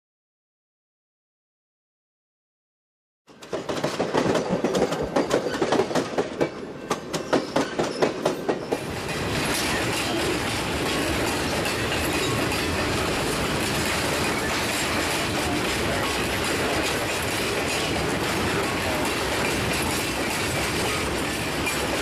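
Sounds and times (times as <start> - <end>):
train cars rolling rumble: 3.3 - 22.0
train wheels clicking over rail joints: 3.3 - 22.0.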